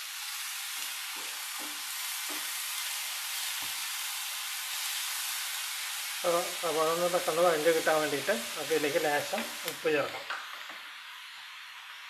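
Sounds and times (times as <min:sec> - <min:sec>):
onions sizzling in frying pan: 0:00.0 - 0:12.0.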